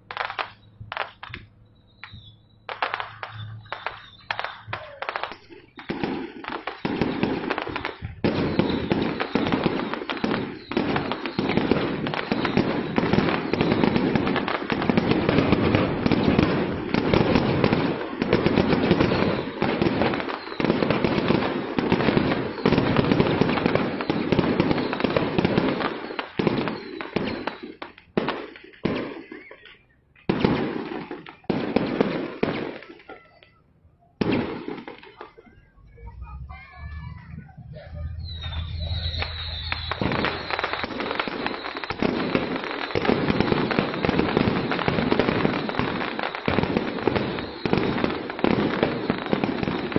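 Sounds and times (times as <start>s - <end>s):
firecrackers crackling: 0.0s - 49.9s.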